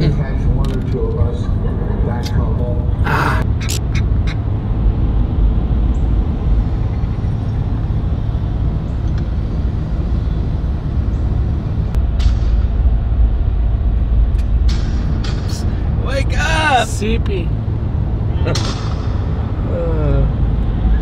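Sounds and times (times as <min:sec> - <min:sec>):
road and engine rumble in truck cab: 0:00.0 - 0:21.0.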